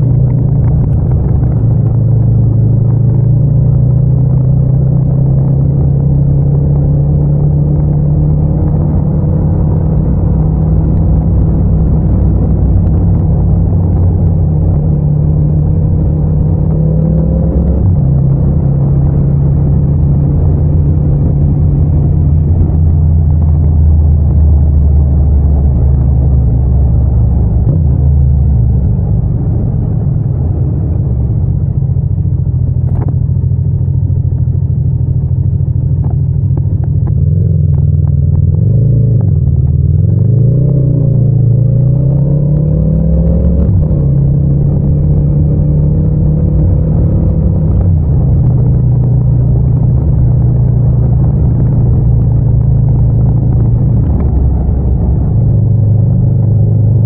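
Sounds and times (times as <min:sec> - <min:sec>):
motorcycle engine cruising: 0:00.0 - 0:57.0
road noise: 0:00.0 - 0:57.0.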